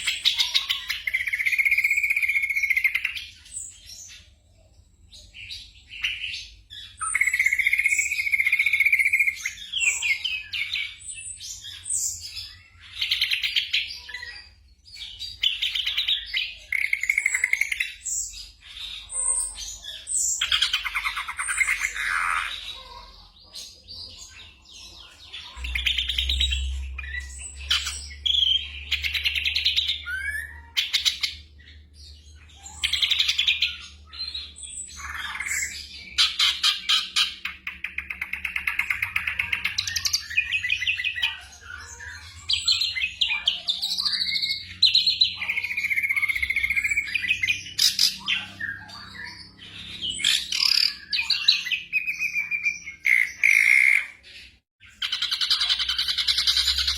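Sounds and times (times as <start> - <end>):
bird singing chirps and trills: 0.0 - 56.9.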